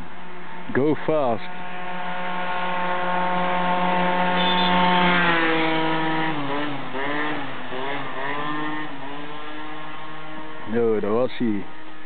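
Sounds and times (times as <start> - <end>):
scooter passing at full throttle: 0.0 - 12.0.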